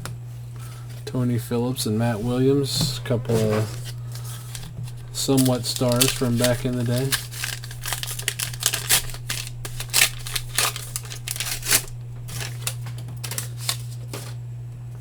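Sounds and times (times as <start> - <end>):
trading cards flipped through: 2.2 - 14.4.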